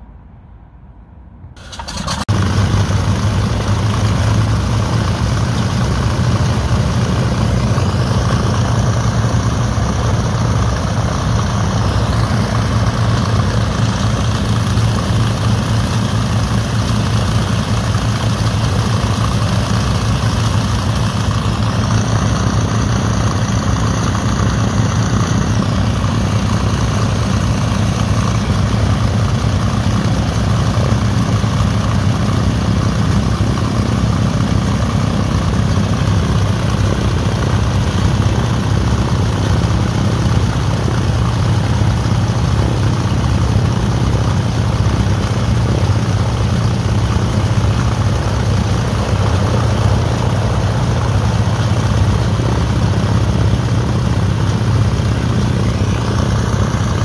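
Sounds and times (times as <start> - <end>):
propeller aircraft engine idling: 1.6 - 57.0.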